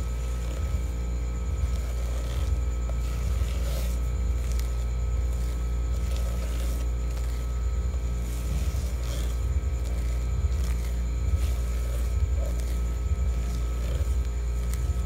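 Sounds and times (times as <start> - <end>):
spatula scraping batter in bowl: 0.0 - 15.0
steady low hum: 0.0 - 15.0.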